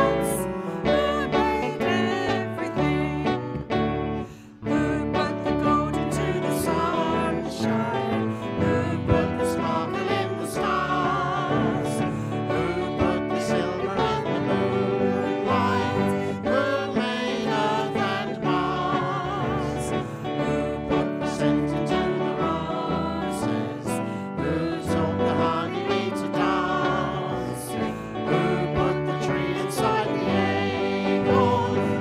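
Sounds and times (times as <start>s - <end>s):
congregation singing: 0.0s - 3.4s, 4.6s - 32.0s
live band playing: 0.0s - 25.6s.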